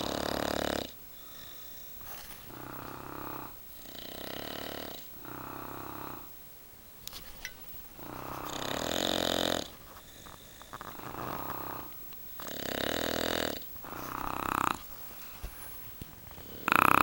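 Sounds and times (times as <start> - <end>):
heavy snoring: 0.0 - 6.3, 8.0 - 14.9, 16.2 - 17.0.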